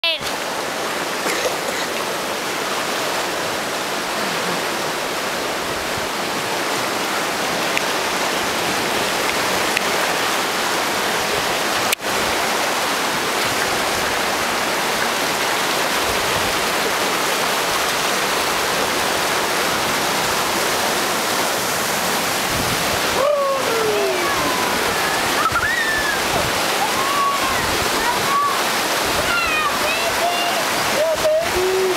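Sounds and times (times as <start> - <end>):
river rapids roaring: 0.1 - 31.9.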